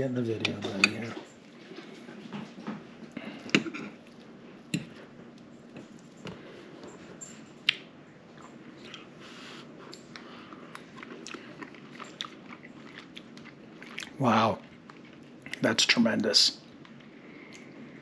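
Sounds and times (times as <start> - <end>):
man chewing food: 0.4 - 15.7, 16.6 - 18.0.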